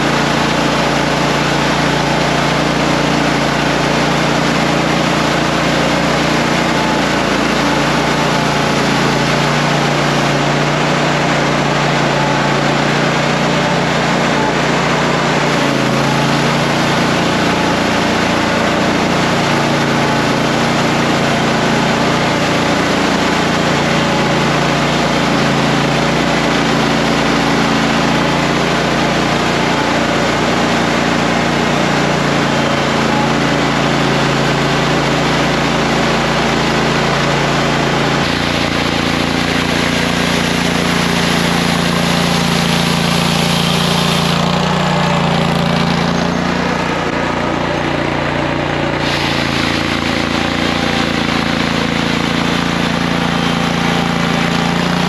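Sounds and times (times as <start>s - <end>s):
engine running: 0.0s - 55.0s
power broom sweeping snow: 0.0s - 55.0s.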